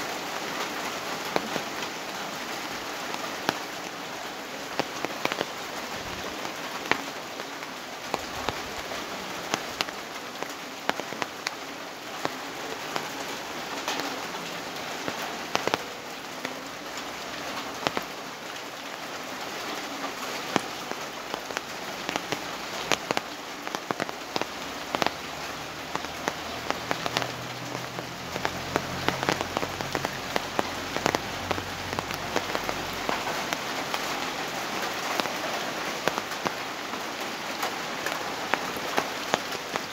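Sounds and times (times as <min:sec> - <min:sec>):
rain drops tapping hard surface: 0:00.0 - 0:39.9.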